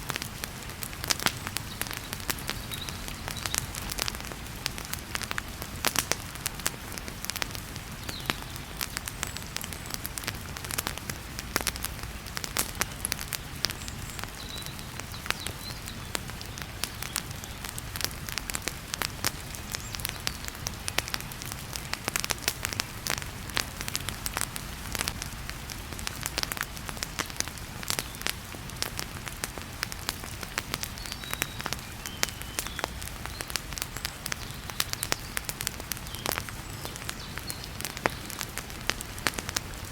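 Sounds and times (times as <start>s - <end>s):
heavy rain hissing: 0.0s - 39.9s
wood fire crackling and popping: 0.0s - 39.9s.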